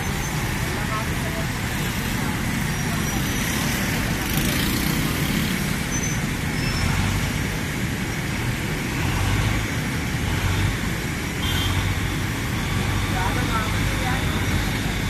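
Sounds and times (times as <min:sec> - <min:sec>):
heavy vehicles and motorcycles passing: 0:00.0 - 0:15.0.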